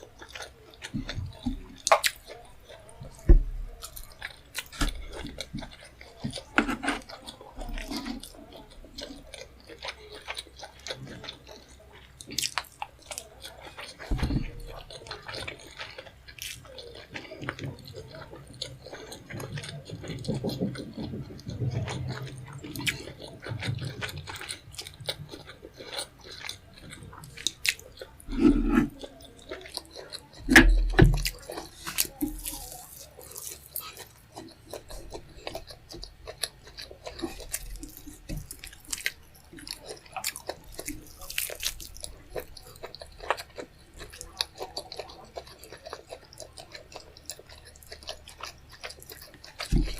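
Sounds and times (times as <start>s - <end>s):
chewing and wet mouth sounds: 0.0s - 49.9s.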